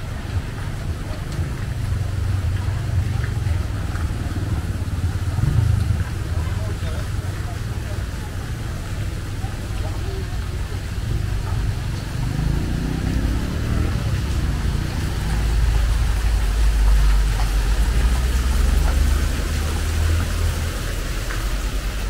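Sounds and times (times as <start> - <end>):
fountain water jets spraying: 0.0 - 22.0
vehicle engine rumble: 0.0 - 22.0.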